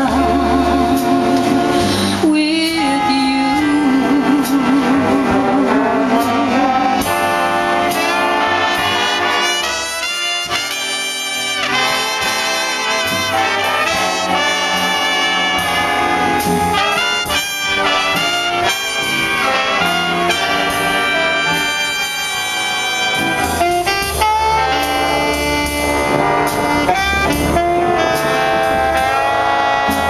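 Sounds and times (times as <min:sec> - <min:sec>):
big band playing swing: 0:00.0 - 0:30.0.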